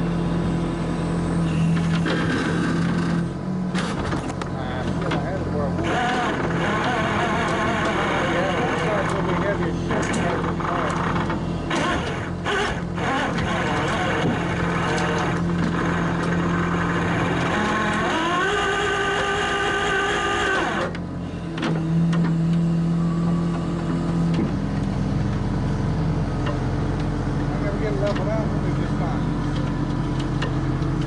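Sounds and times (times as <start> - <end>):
truck engine running: 0.0 - 31.0
winch whining: 4.7 - 31.0.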